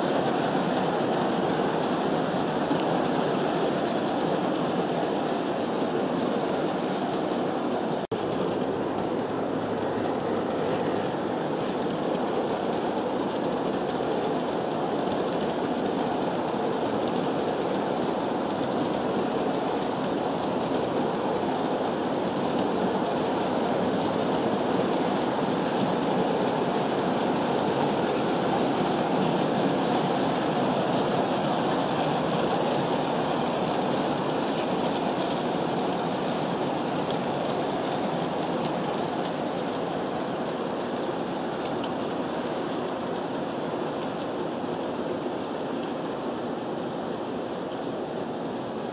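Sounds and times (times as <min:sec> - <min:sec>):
model train wheels rolling: 0:00.0 - 0:48.9.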